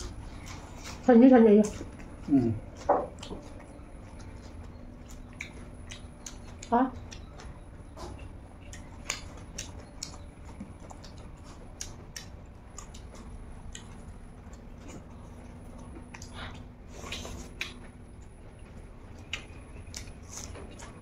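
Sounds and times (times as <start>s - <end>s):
faint steady hum: 0.0s - 21.0s
people chewing food: 0.0s - 21.0s.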